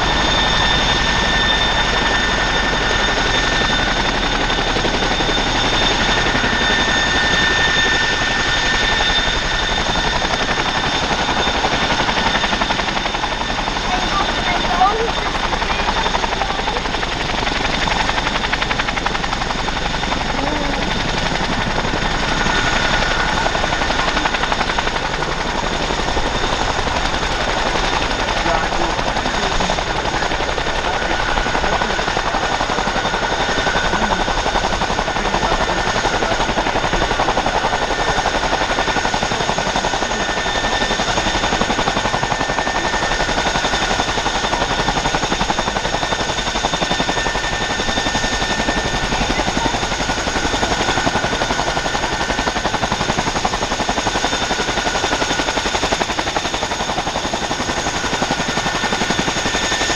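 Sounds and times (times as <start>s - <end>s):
helicopter rotor chop: 0.0s - 59.9s
turbine engine whine: 0.0s - 59.9s.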